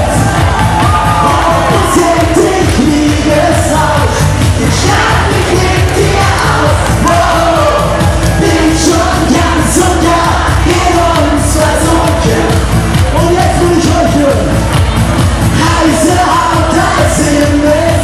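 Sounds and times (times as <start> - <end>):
crowd yelling and singing: 0.0 - 18.0
live pop music: 0.0 - 18.0
man singing into microphone: 1.2 - 14.5, 15.5 - 18.0.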